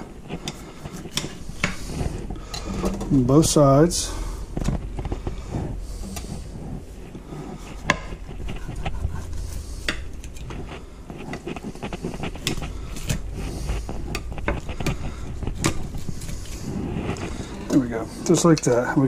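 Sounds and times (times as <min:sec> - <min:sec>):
knife scraping fish: 0:00.0 - 0:02.8, 0:05.9 - 0:18.4.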